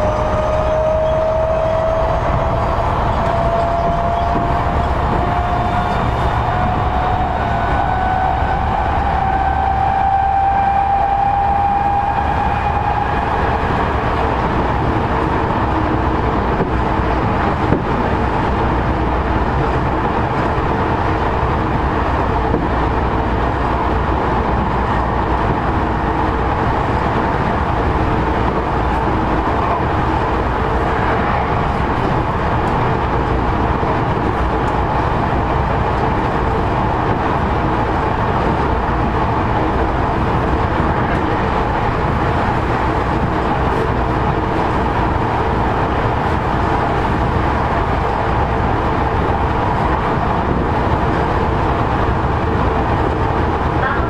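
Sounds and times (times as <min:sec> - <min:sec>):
train rolling rumble: 0:00.0 - 0:54.0.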